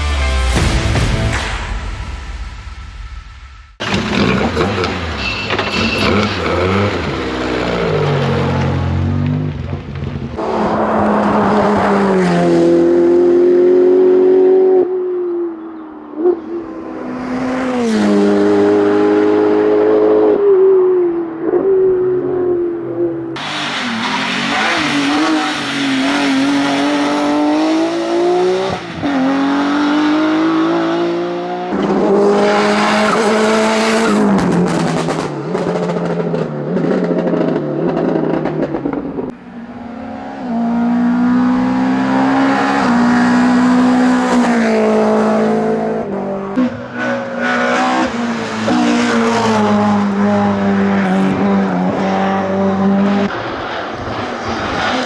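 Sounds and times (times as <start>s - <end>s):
racing car engines revving: 3.8s - 55.0s.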